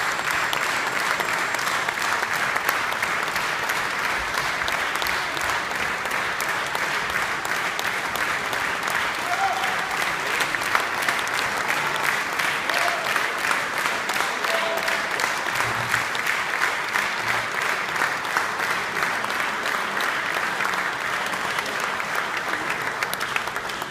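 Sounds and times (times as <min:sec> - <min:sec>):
audience applauding: 0:00.0 - 0:23.9.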